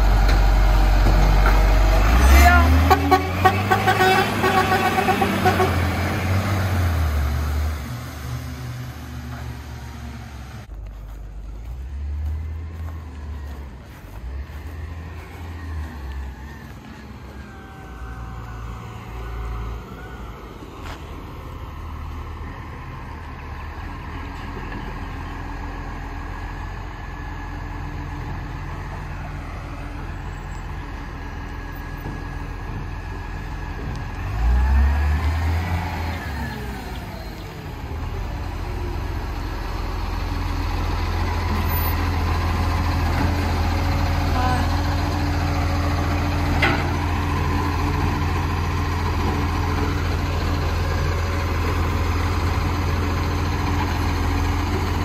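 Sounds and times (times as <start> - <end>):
diesel truck engine revving and idling: 0.0 - 55.0.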